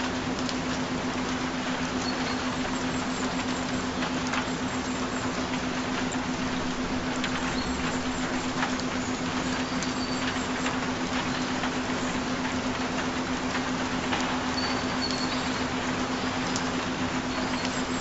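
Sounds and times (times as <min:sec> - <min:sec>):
rain: 0:00.0 - 0:18.0
raindrop ticks: 0:00.0 - 0:18.0.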